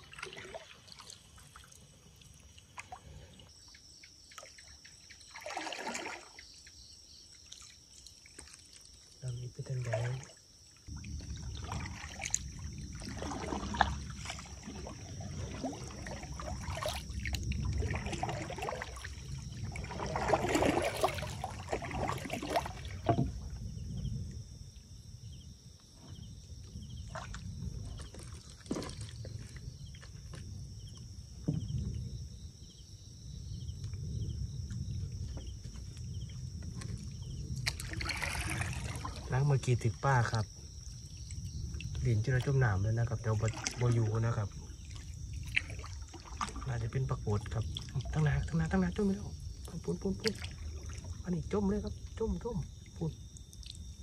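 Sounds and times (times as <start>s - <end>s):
low rumble from movement through water: 0.0s - 54.0s
water splashing and sloshing: 0.0s - 54.0s.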